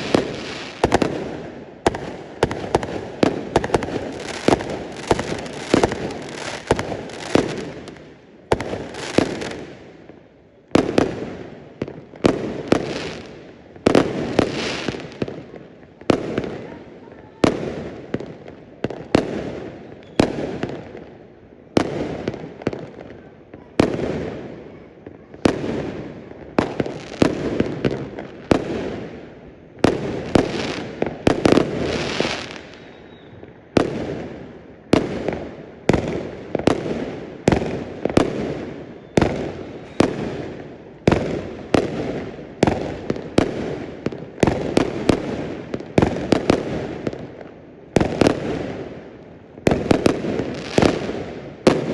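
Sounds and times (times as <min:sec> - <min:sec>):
fireworks banging with echo: 0:00.0 - 0:21.0, 0:21.8 - 0:51.9.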